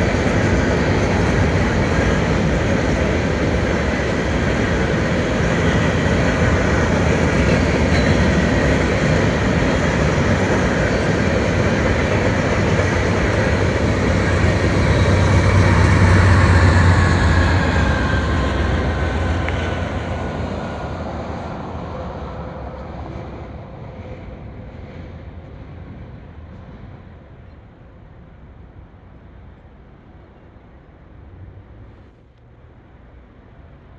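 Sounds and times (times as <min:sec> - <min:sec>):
diesel locomotive rumble: 0:00.0 - 0:33.9
train wheels rumbling on rail: 0:00.0 - 0:33.9.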